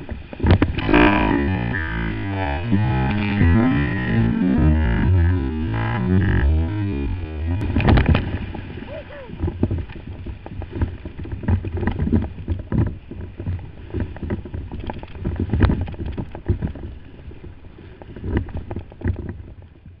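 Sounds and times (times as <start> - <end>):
water rushing and splashing: 0.0 - 16.1.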